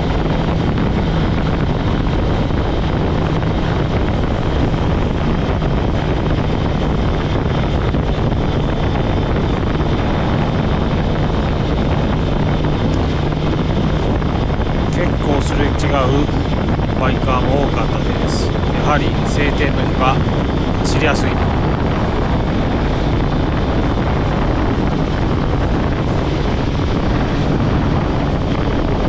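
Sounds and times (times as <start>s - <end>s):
motorcycle engine cruising: 0.0s - 15.2s, 19.9s - 29.0s
wind rushing over microphone: 0.0s - 29.0s.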